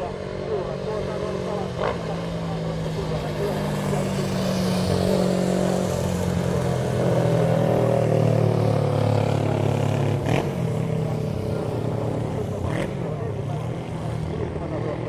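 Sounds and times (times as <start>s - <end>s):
motorcycles riding past: 0.0s - 15.0s.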